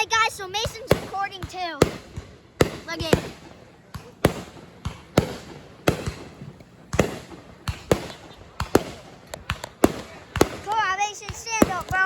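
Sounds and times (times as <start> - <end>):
fireworks exploding: 0.1 - 12.0.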